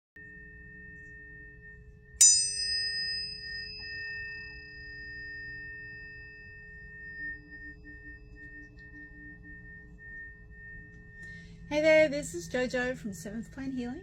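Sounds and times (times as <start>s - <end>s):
tuning fork struck metallic ping: 0.2s - 14.0s
tuning forks ringing: 0.2s - 14.0s.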